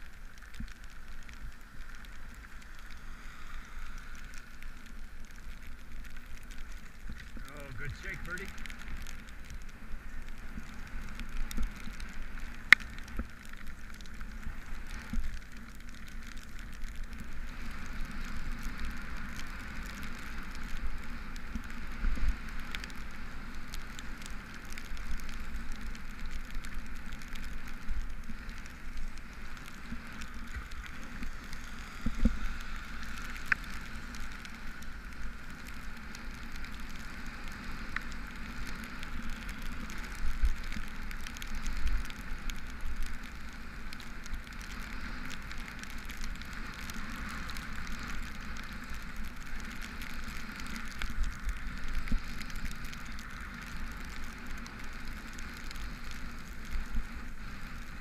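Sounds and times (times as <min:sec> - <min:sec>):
bicycle tyres hissing on wet road: 0:00.0 - 0:58.0
low wind rumble: 0:00.0 - 0:58.0
raindrops ticking on camera: 0:00.0 - 0:58.0.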